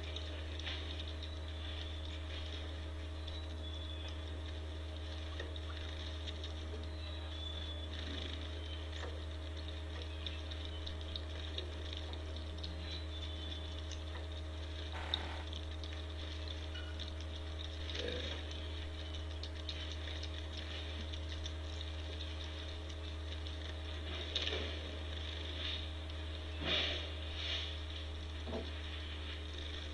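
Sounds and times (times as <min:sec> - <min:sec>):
light pecking ticks: 0:00.0 - 0:26.6
low electrical hum: 0:00.0 - 0:29.9.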